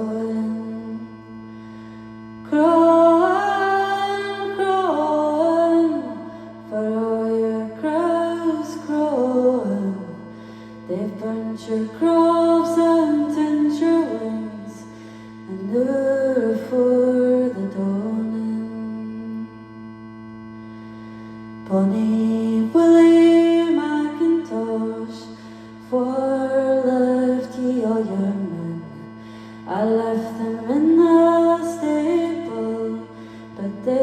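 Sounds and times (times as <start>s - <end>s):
steady low drone: 0.0s - 34.0s
woman singing folk melody: 0.0s - 34.0s.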